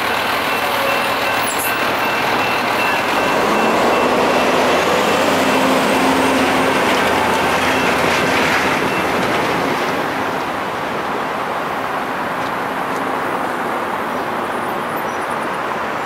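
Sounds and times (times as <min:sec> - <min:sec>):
road traffic driving over crossing: 0:00.0 - 0:16.0.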